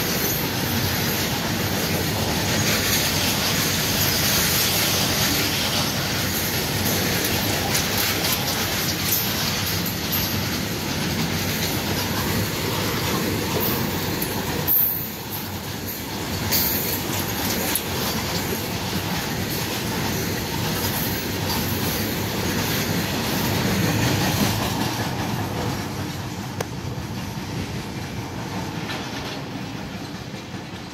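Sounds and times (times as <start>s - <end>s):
freight train rolling past: 0.0s - 30.9s.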